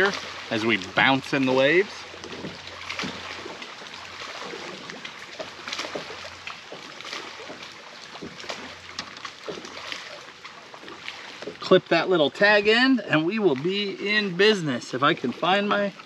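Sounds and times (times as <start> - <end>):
waves slapping against boat hull: 0.0 - 16.0.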